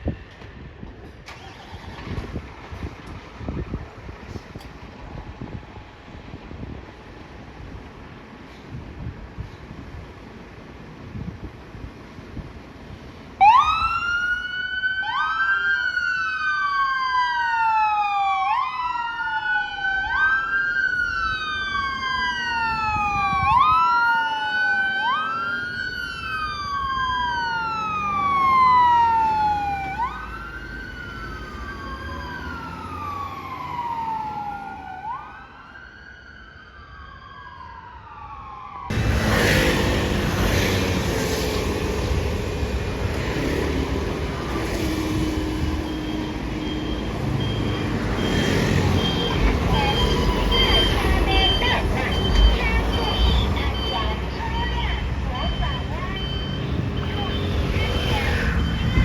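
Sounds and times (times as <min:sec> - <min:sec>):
engine and road rumble: 0:00.0 - 0:59.0
fire engine sirens wailing: 0:01.3 - 0:03.8, 0:13.4 - 0:59.0.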